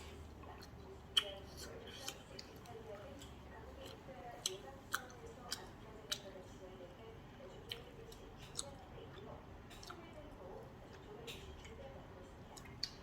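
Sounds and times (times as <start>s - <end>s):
chewing: 0.0s - 6.6s, 7.5s - 13.0s.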